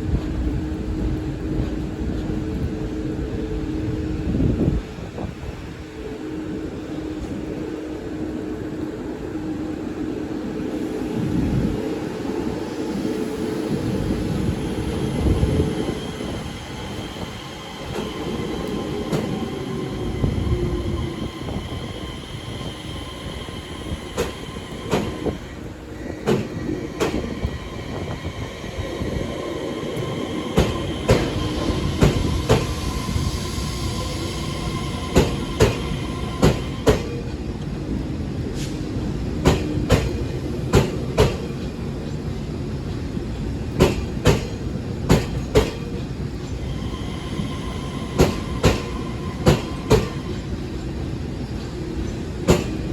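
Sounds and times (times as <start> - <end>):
train mechanical hum: 0.0 - 52.9.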